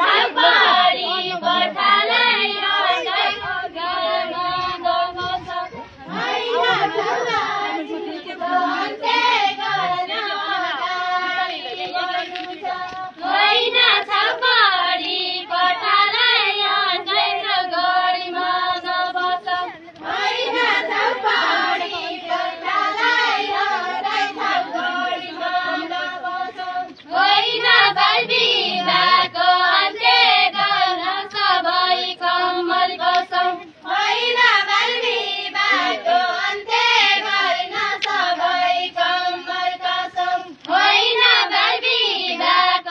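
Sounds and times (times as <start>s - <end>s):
women and girls singing: 0.0s - 42.9s.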